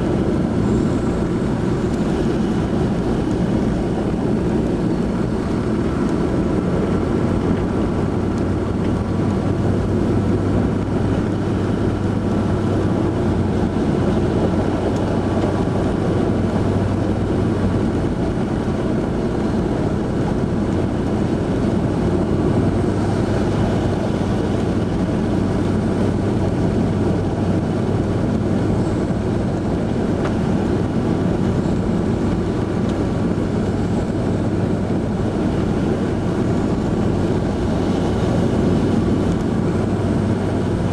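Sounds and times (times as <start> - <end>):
tyre and road noise: 0.0 - 40.9
vehicle engine droning: 0.0 - 40.9.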